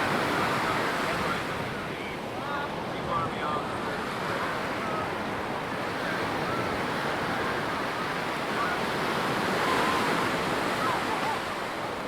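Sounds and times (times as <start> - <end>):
surf washing onto a beach: 0.0 - 12.0.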